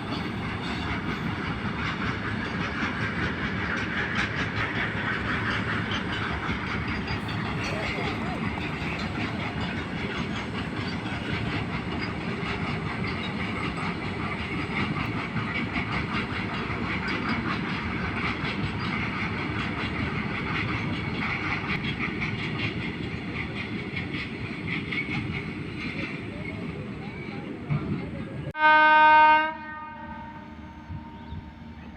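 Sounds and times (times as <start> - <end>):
wheels clattering over rails: 0.0 - 28.2
train passing at speed: 0.0 - 31.9.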